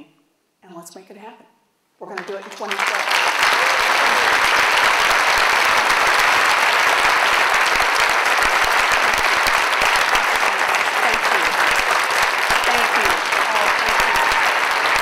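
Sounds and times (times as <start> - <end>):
large audience applauding: 2.1 - 15.0.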